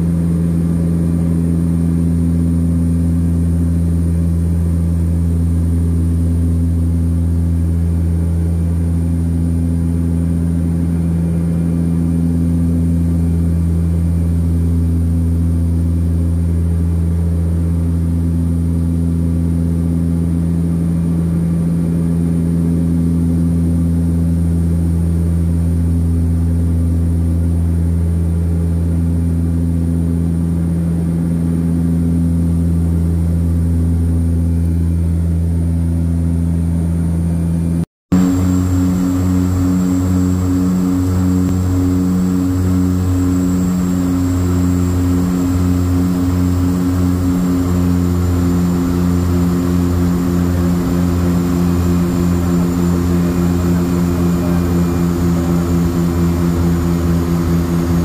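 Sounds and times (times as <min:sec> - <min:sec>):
higher engine tone: 0:00.0 - 0:58.0
turboprop engines droning: 0:00.0 - 0:58.0.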